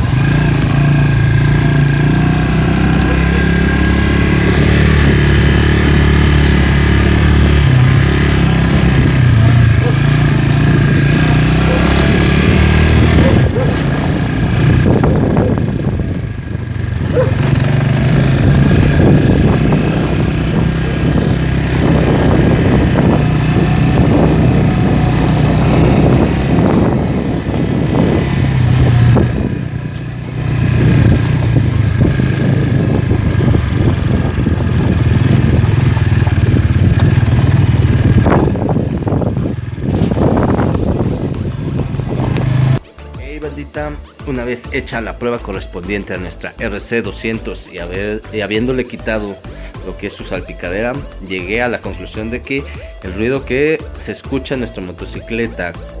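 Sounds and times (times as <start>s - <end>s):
motorcycle engine revving: 0.0s - 43.0s, 43.6s - 56.0s.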